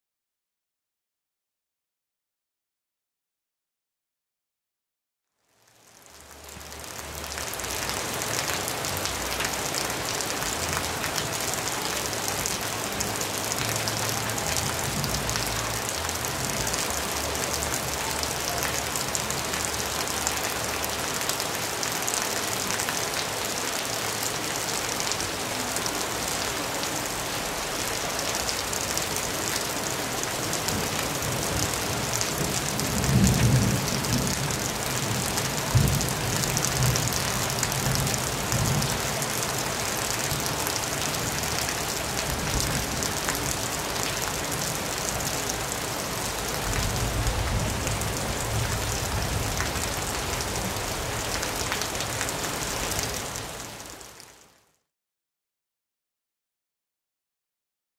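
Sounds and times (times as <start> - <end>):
heavy rain on water: 5.4 - 54.6.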